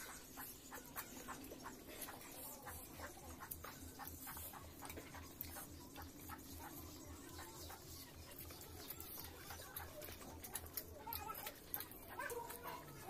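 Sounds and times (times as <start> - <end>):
mouth chewing wetly: 0.0 - 13.0.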